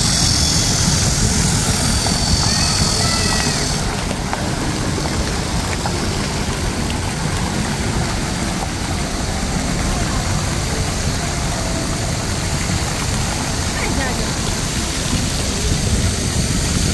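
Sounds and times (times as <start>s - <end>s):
indistinct voices: 0.0s - 16.9s
traffic rumble: 0.0s - 16.9s.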